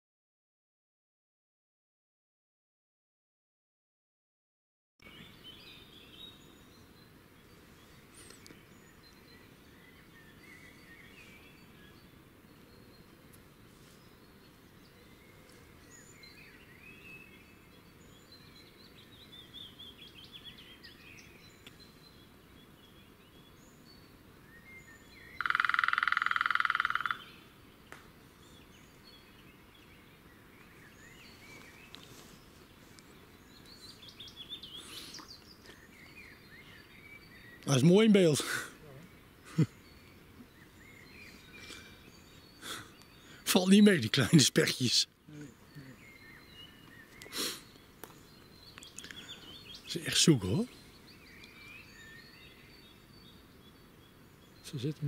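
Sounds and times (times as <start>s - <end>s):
distant birdsong: 5.0s - 55.0s.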